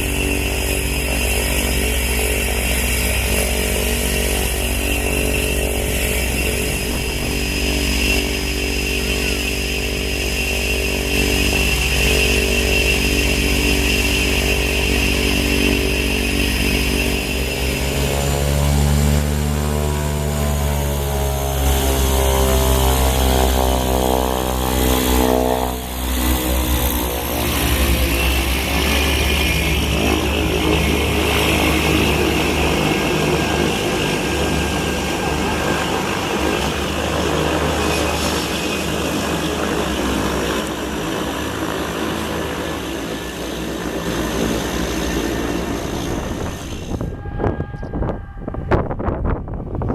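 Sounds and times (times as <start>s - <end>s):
high turbine whine: 0.0s - 49.9s
turboprop propeller drone: 0.0s - 49.9s.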